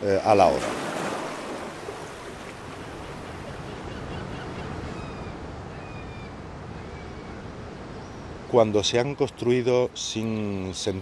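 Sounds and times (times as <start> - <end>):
surf washing on shore: 0.0 - 11.0.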